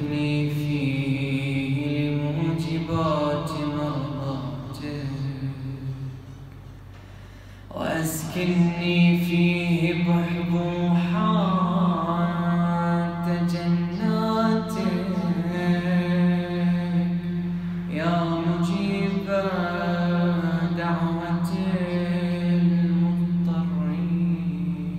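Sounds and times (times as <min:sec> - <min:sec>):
man chanting melismatically: 0:00.0 - 0:06.5, 0:07.7 - 0:24.9
steady low drone tone: 0:00.0 - 0:24.9.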